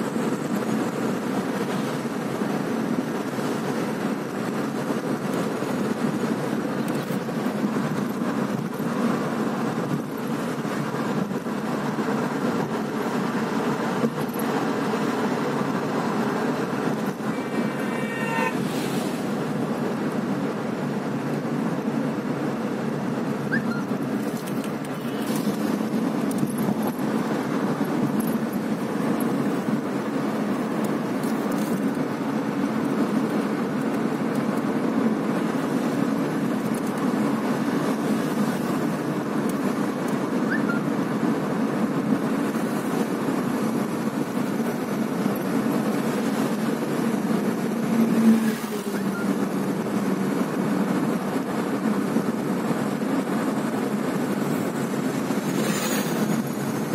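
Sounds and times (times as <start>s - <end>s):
road and engine noise in car: 0.0s - 56.9s.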